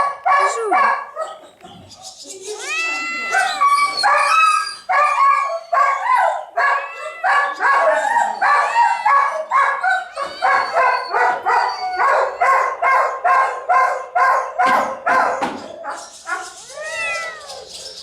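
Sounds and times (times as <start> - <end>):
dogs barking and yelping: 0.0 - 18.0.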